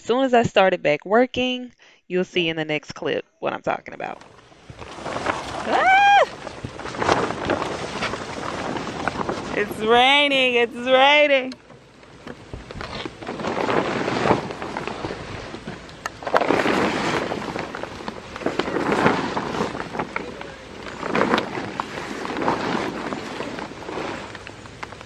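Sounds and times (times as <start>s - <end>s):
plastic tarp crinkling: 4.1s - 25.0s.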